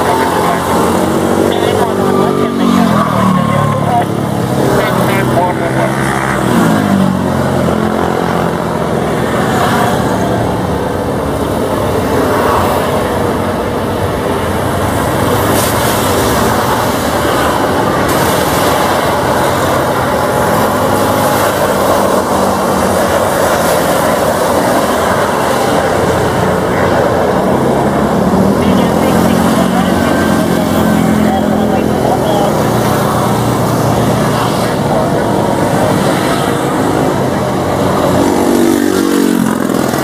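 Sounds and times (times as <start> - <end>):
jet engines running: 0.0 - 40.0.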